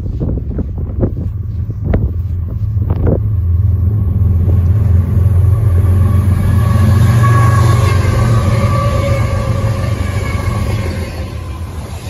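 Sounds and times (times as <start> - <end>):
locomotive engine and rail rumble: 0.0 - 12.0.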